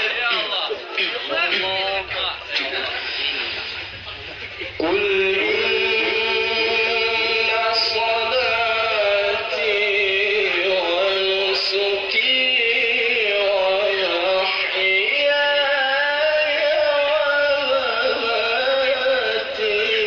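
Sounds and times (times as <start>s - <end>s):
man reciting melodically: 0.0s - 3.3s, 4.0s - 20.0s.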